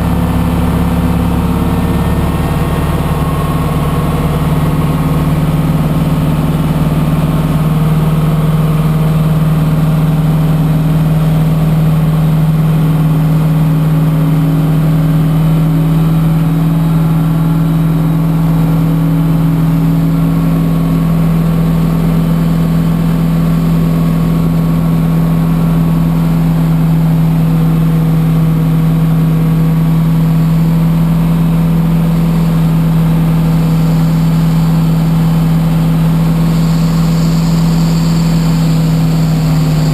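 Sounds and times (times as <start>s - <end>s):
pushback tug engine running: 0.0s - 39.9s.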